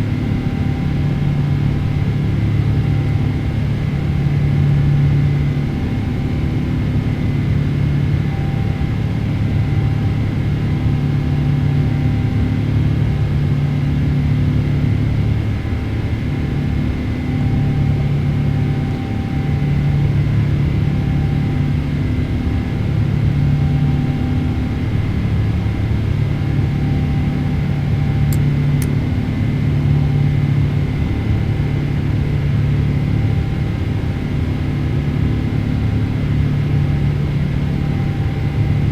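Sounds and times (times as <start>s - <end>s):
jet engine rush in cabin: 0.0s - 38.9s
low pulsing hum: 0.0s - 38.9s.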